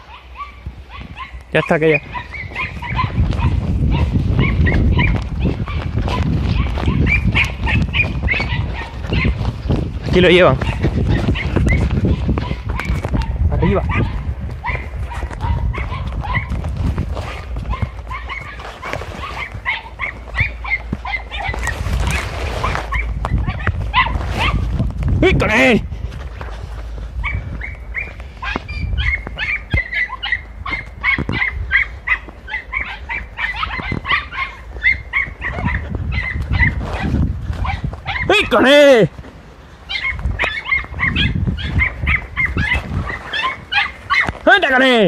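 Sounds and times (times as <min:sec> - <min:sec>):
hounds yelping: 0:00.0 - 0:24.7, 0:26.8 - 0:45.0
low rumble of movement through scrub: 0:00.6 - 0:38.3.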